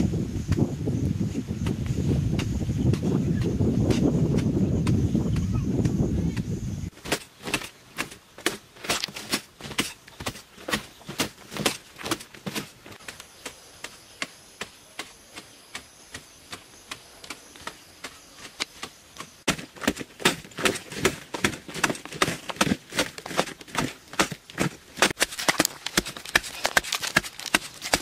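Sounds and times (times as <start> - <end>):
digging tool striking hard earth: 1.6 - 28.0.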